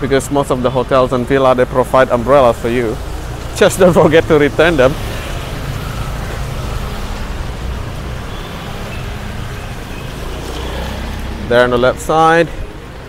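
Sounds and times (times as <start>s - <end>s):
road noise hiss: 0.0s - 13.0s
vehicle engines running: 0.0s - 13.0s.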